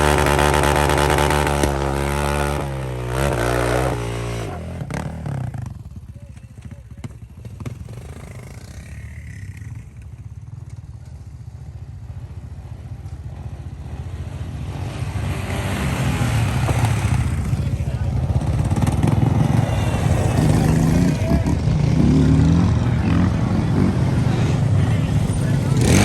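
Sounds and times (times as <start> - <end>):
motorcycle and atv engines running: 0.0 - 26.0.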